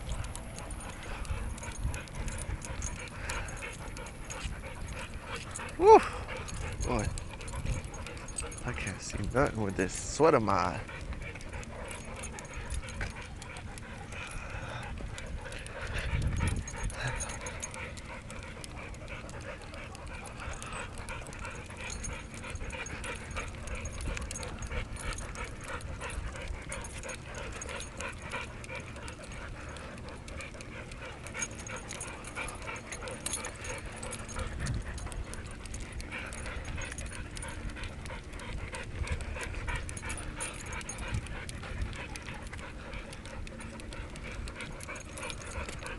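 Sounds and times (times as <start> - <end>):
dog panting: 0.0 - 45.9.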